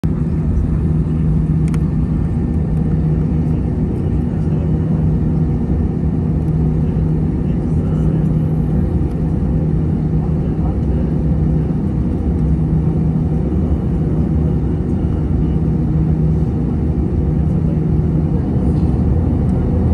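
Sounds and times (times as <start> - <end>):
airplane cabin rumble and hum: 0.0 - 19.9.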